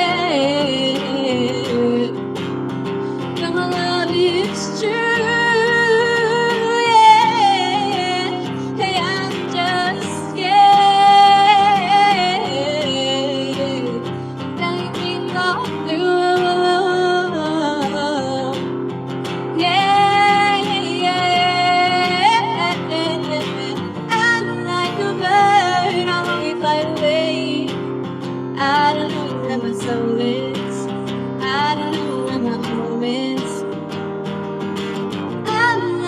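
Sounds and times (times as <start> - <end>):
strummed acoustic guitar: 0.0 - 36.0.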